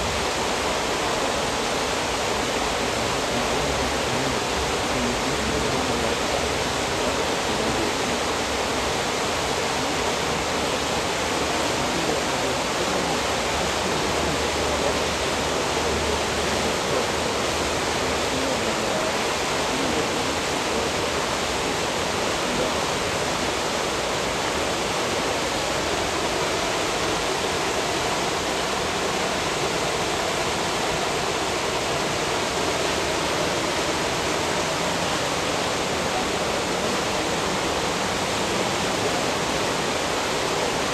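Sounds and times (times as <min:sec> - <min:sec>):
turbulent water rushing: 0:00.0 - 0:40.9.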